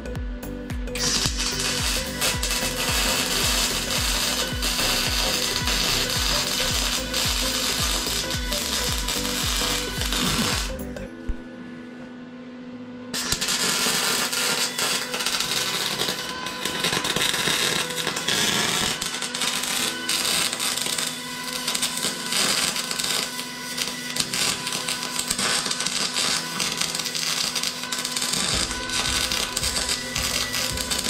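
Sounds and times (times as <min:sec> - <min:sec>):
welding arc crackling: 0:00.9 - 0:10.9, 0:13.2 - 0:31.0.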